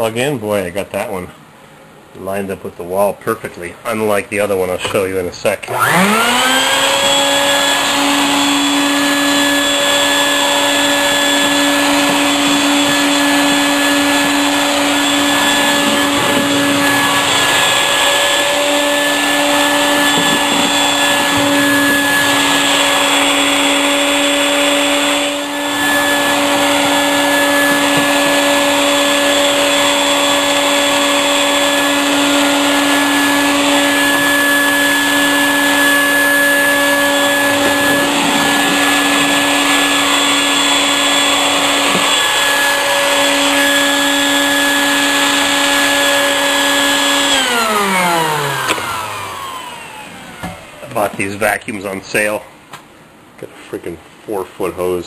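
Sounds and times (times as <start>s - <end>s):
shop vacuum motor whining: 4.8s - 52.4s.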